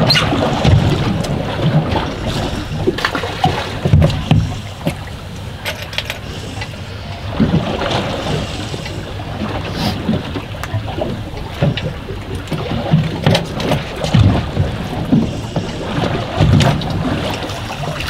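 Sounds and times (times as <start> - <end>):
water slapping against hull: 0.0 - 18.0
wind gusting over microphone: 0.0 - 18.0.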